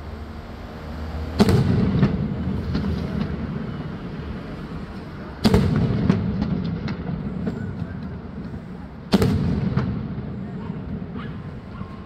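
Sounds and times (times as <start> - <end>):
continuous low rumble: 0.0 - 12.0
loud firework bangs: 1.3 - 12.0.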